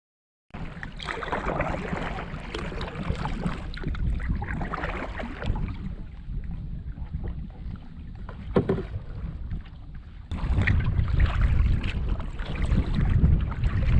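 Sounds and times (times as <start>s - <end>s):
water splashing and lapping: 0.6s - 13.9s
wind buffeting microphone: 0.6s - 13.9s.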